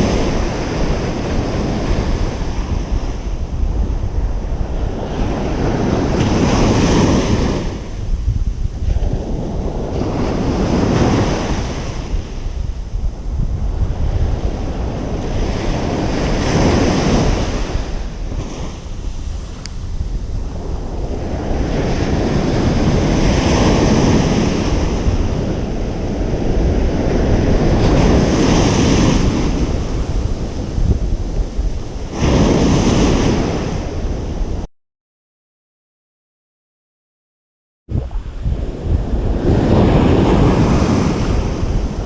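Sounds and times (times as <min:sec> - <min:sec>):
ocean waves breaking on beach: 0:00.0 - 0:34.6, 0:37.9 - 0:42.0
wind rumble on microphone: 0:00.0 - 0:34.7, 0:37.9 - 0:42.0.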